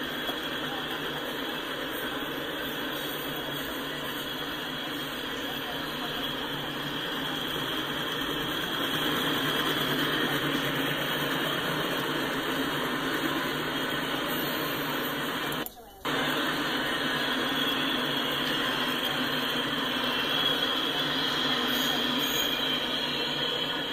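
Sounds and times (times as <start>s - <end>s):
steel wheels rushing on rail: 0.0s - 23.9s.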